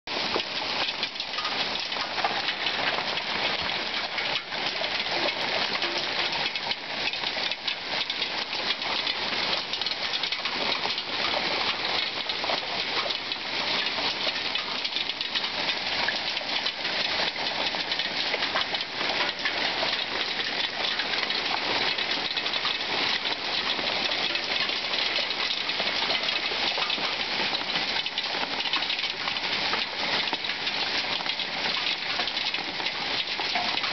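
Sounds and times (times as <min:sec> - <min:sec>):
hail falling heavily: 0:00.1 - 0:33.9.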